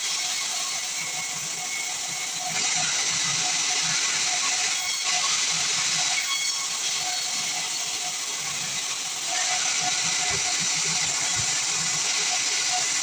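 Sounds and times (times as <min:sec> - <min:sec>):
band saw blade cutting log: 0:00.0 - 0:13.0.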